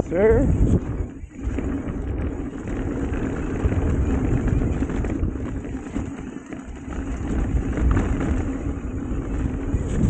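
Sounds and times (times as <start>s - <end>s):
mountain bike rattling downhill: 0.0s - 10.0s
wind buffeting microphone: 0.0s - 10.0s.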